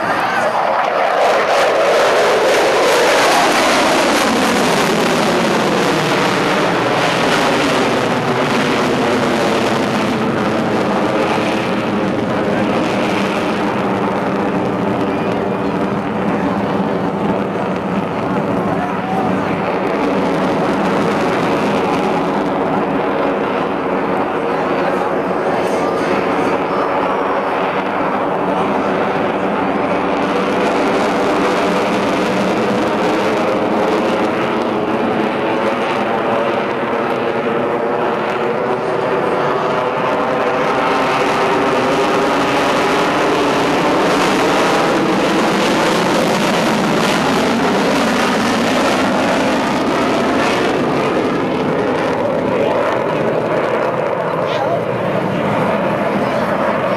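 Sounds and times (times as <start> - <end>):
fighter jet engines roaring: 0.0 - 56.9.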